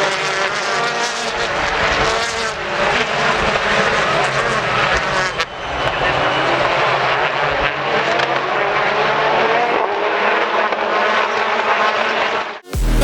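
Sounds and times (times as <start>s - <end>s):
race car engines droning: 0.0s - 12.4s.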